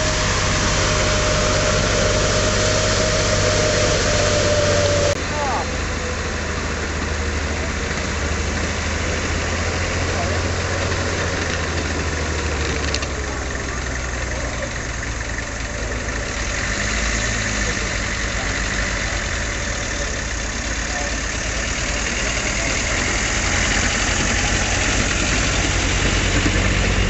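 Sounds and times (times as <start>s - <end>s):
vehicle engines driving slowly: 0.0s - 27.0s.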